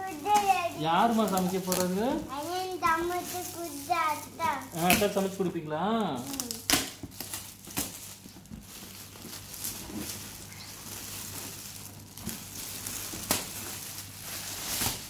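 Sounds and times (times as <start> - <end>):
foil gift wrap crinkling and tearing: 0.0 - 15.0.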